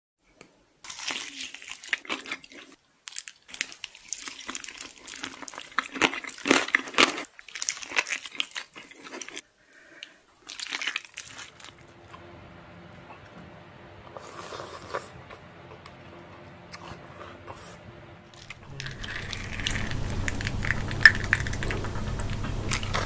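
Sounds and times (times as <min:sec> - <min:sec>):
chewing crunchy food: 0:00.8 - 0:12.2, 0:14.1 - 0:23.0.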